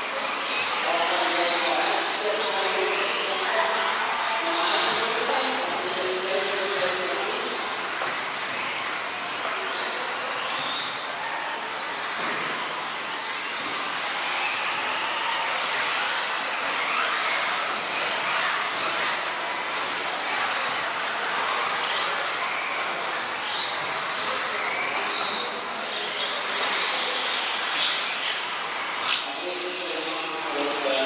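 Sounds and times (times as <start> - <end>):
rc car electric motors whining: 0.0 - 31.0.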